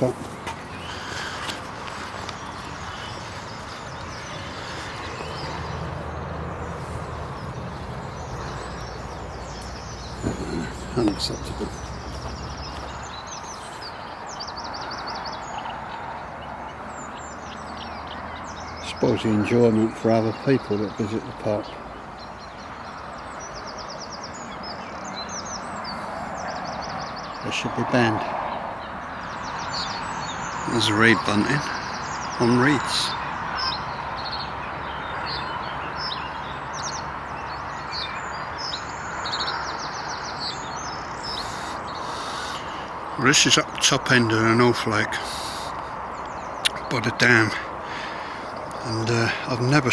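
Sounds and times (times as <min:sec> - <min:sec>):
outdoor background hiss: 0:00.0 - 0:49.9
small birds chirping: 0:00.0 - 0:49.9.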